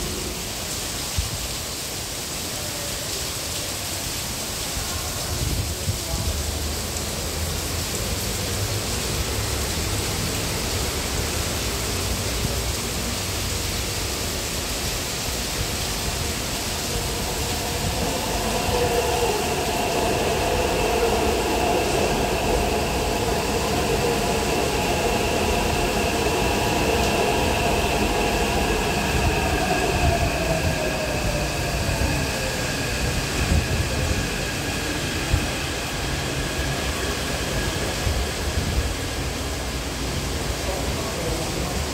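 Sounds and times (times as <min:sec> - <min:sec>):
train running noise: 0:07.1 - 0:41.9.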